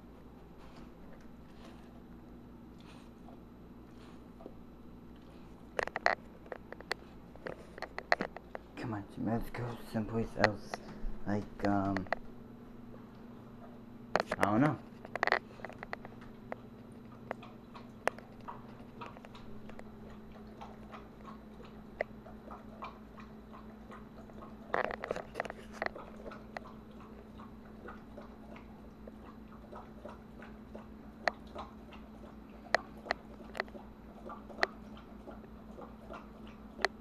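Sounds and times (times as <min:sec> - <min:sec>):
dog chewing food: 0:00.0 - 0:37.0.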